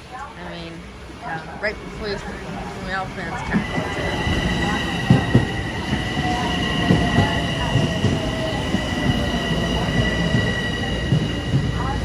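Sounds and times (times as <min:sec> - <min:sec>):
electric train whine: 0:00.0 - 0:12.0
low train rumble: 0:00.0 - 0:12.0.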